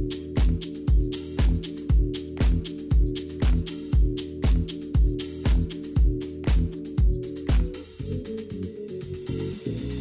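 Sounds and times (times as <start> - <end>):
steady kick drum: 0.0 - 8.4
electronic music: 0.0 - 10.0.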